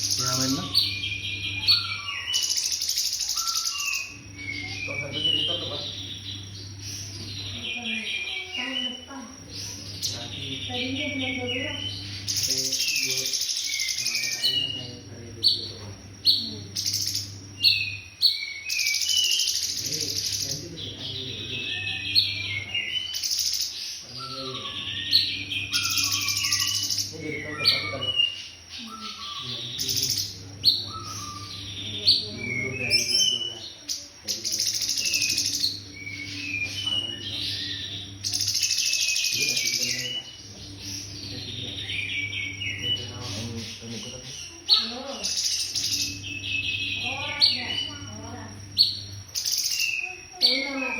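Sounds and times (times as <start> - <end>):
songbird whistling: 0.0 - 9.1, 9.7 - 50.9
cricket buzzing trill: 0.0 - 50.9
sharp loud chirps: 0.0 - 50.9
steady low hum: 0.0 - 50.9.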